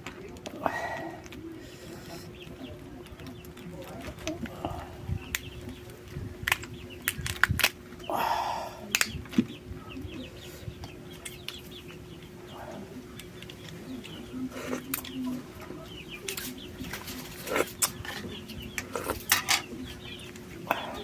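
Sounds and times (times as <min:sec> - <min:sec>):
crunching and sucking shellfish: 0:00.2 - 0:09.2, 0:10.3 - 0:15.2, 0:16.3 - 0:19.4.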